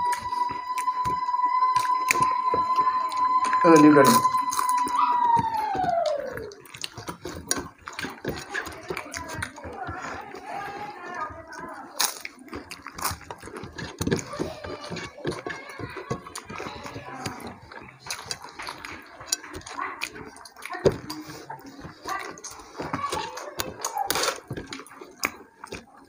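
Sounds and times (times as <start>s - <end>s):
fingers mixing rice on plates: 0.0s - 26.0s
wet chewing and lip-smacking: 0.0s - 26.0s.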